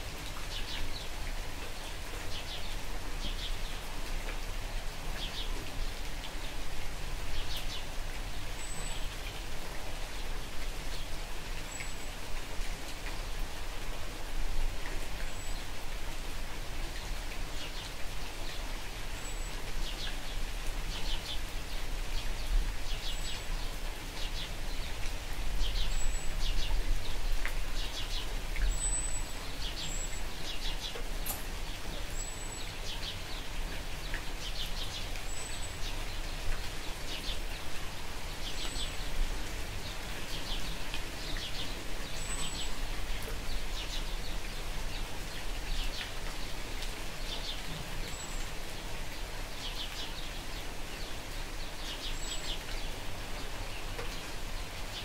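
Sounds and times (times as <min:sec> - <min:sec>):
light rain falling: 0:00.0 - 0:55.0.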